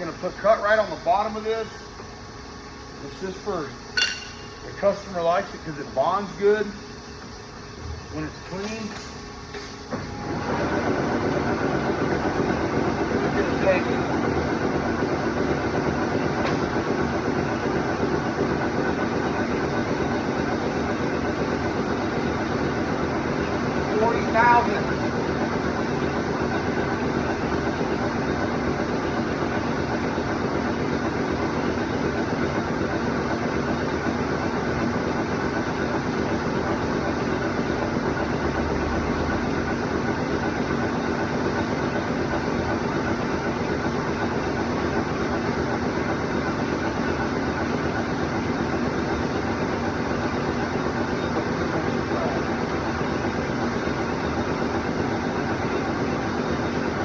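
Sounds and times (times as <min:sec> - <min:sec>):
cnc machine cutting: 0:00.0 - 0:57.0.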